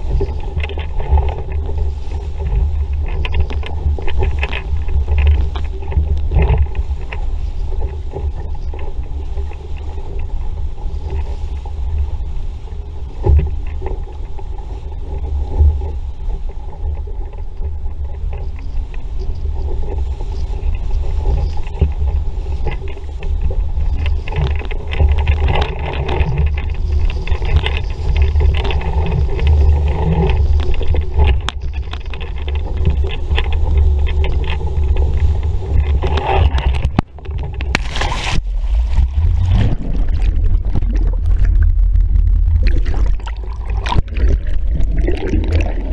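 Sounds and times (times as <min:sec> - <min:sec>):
water rushing along a hull: 0:00.0 - 0:45.9
wind buffeting microphone: 0:00.0 - 0:45.9.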